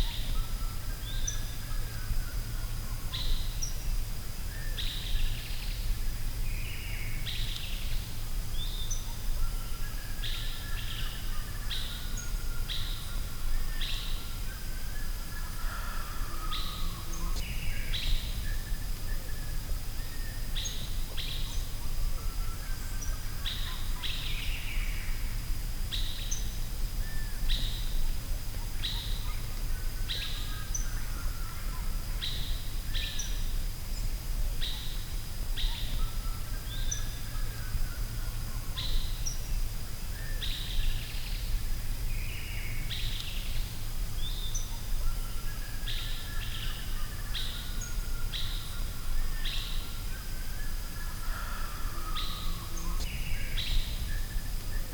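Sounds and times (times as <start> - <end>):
birds chirping softly: 0.0 - 54.9.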